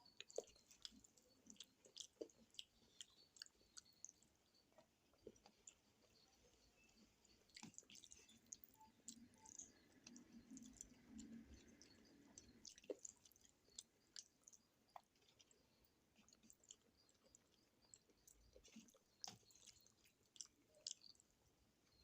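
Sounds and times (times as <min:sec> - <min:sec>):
faint chewing: 0:00.0 - 0:22.0.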